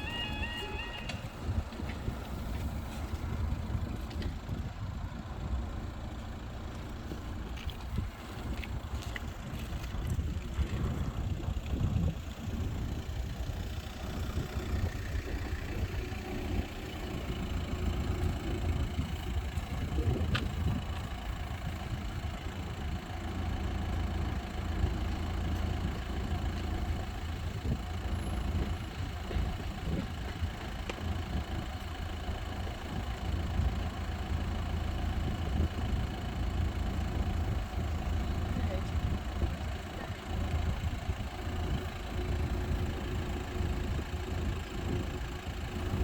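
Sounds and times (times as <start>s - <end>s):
vehicles idling: 0.0s - 46.0s.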